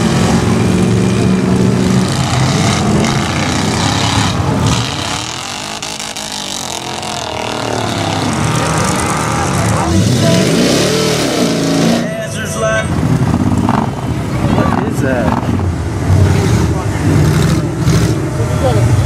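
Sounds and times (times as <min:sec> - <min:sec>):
truck engine revving hard: 0:00.0 - 0:12.3, 0:12.9 - 0:19.0.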